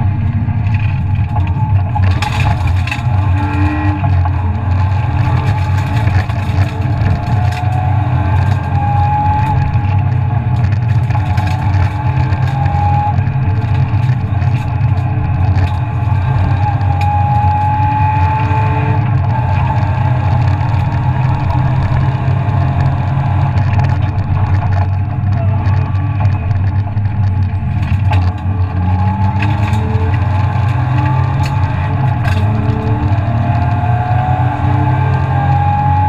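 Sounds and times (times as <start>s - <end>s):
rally car engine running hard: 0.0s - 36.0s
rising whine: 0.0s - 36.0s
road noise: 0.0s - 36.0s.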